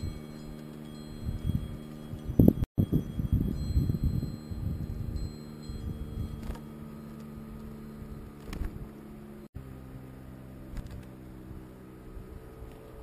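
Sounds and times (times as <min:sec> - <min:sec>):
low hum of held tones: 0:00.0 - 0:13.0.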